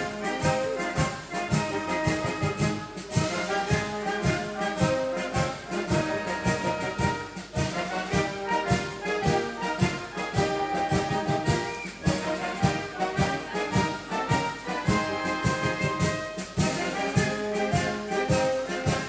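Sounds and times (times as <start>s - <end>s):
brass band playing: 0.0s - 19.0s
steady drum beat: 0.0s - 19.0s.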